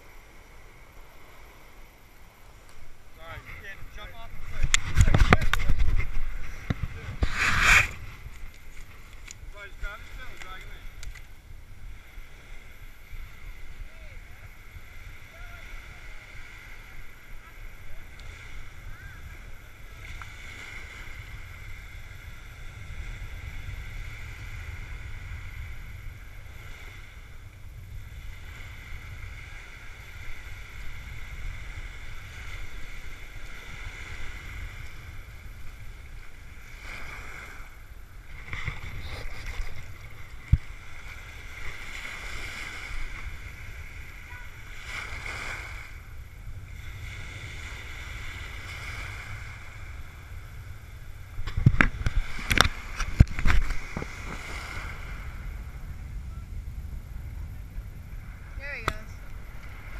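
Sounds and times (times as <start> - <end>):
small waves washing on beach: 0.0 - 59.9
wind rumbling on microphone: 0.0 - 59.9.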